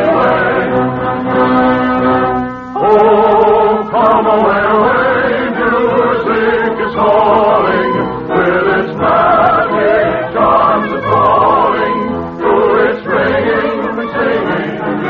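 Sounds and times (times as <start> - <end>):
choir singing a waltz: 0.0 - 15.0
orchestra: 0.0 - 15.0.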